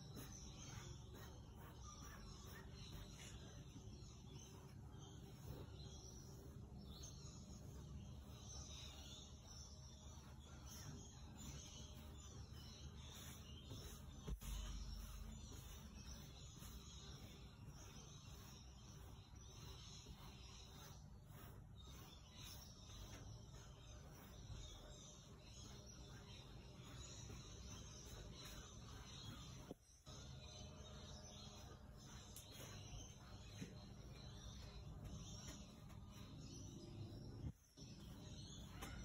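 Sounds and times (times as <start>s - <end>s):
brush scrubbing paint on canvas: 0.0s - 39.0s.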